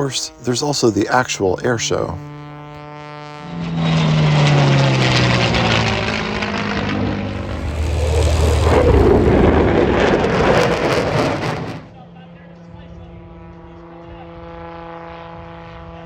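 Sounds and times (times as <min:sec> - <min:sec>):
propeller airplane flying past: 0:00.0 - 0:16.0.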